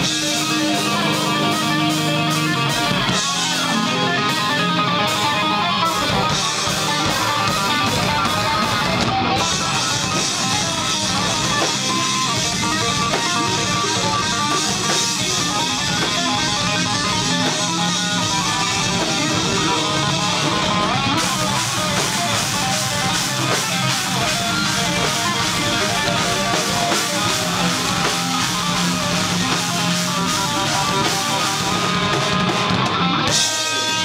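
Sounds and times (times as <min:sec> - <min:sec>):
drum kit: 0:00.0 - 0:34.0
electric guitars: 0:00.0 - 0:34.0.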